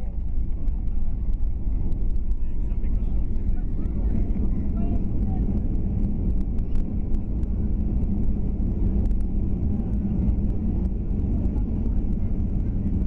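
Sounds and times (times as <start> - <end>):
airliner cabin rumble: 0.0 - 13.0
light ticks and rattles: 0.0 - 13.0.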